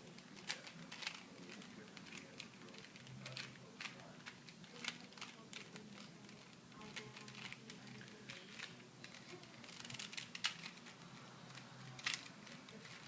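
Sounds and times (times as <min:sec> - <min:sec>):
puzzle cube plastic clicks: 0:00.2 - 0:13.0.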